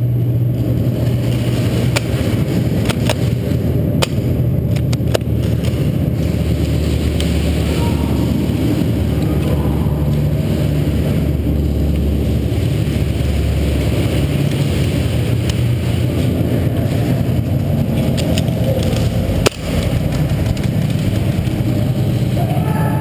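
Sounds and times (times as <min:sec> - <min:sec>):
muffled rumble of handling noise: 0:00.0 - 0:23.0.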